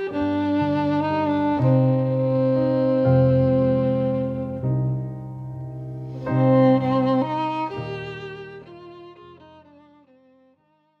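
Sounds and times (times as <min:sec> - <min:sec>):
sustained string chords: 0:00.0 - 0:10.1.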